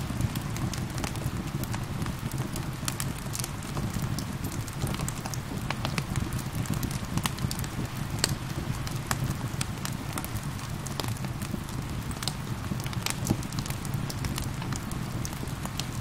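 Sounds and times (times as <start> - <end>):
gentle rain: 0.0 - 16.0
wood fire crackling and popping: 0.0 - 16.0.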